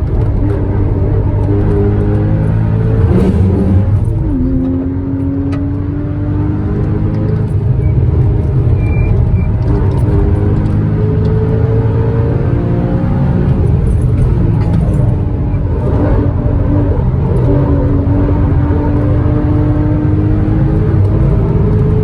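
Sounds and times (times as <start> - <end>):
car engine at speed: 0.0 - 22.0
road and tyre rumble: 0.0 - 22.0.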